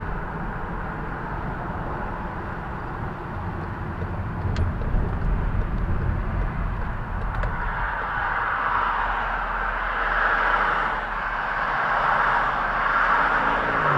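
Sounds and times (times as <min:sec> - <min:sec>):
car engine and exhaust drone: 0:00.0 - 0:13.9
road noise: 0:00.0 - 0:13.9.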